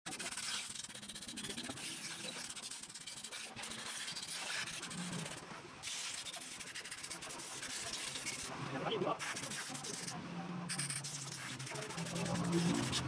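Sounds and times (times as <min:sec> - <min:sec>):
scratchy rubbing with clicks: 0:00.1 - 0:13.0.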